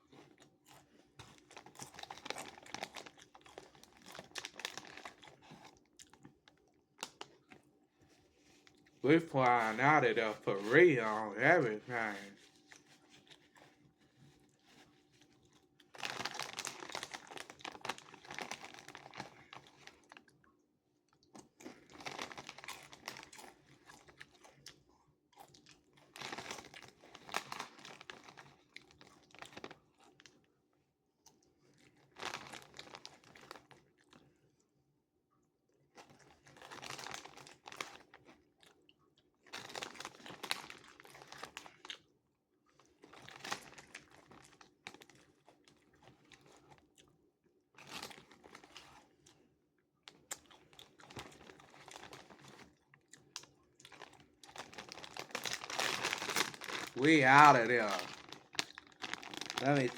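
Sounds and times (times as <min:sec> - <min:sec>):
crunchy chewing of chips: 0:00.0 - 0:20.6, 0:21.2 - 0:30.5, 0:31.2 - 0:34.7, 0:35.7 - 0:59.9.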